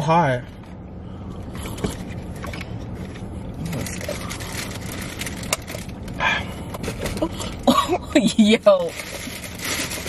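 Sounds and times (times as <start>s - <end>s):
low hum in car cabin: 0.0s - 10.0s.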